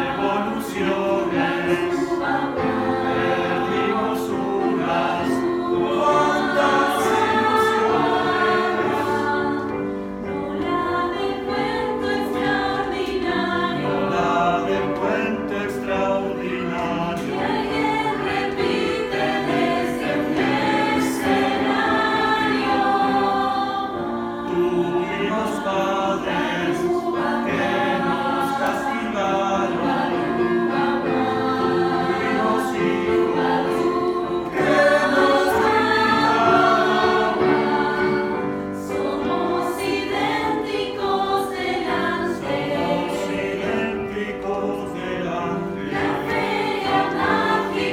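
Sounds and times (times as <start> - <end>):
youth choir singing: 0.0 - 47.9.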